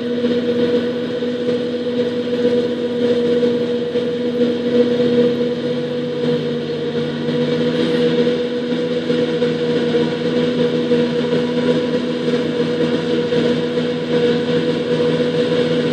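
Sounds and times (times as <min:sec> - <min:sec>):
harvester mechanical drone: 0:00.0 - 0:15.9
low engine note: 0:00.0 - 0:15.9.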